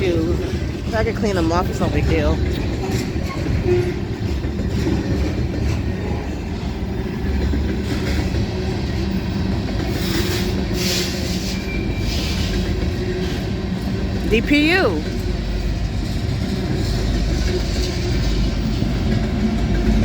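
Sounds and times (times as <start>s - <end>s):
freight train cars rolling past: 0.0s - 20.0s.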